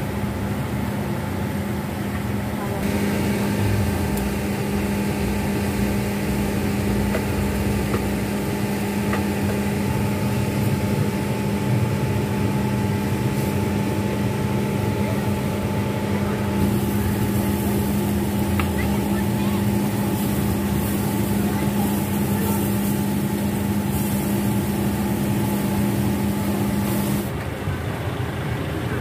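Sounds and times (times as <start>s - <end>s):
motor humming: 2.8s - 27.4s.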